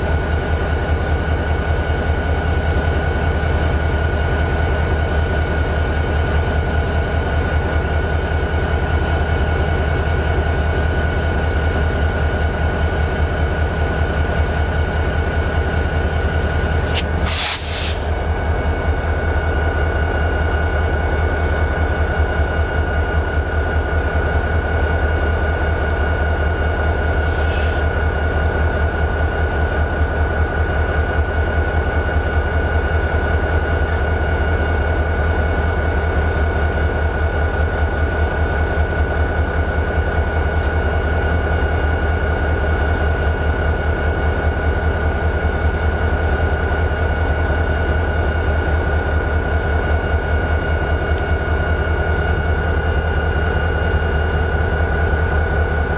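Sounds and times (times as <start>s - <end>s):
diesel locomotive idling: 0.0s - 55.9s.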